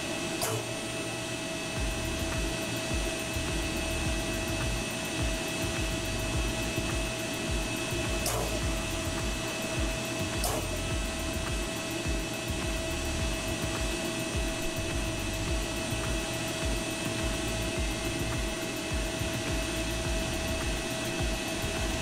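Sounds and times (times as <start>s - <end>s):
dust collector running: 0.0s - 22.0s.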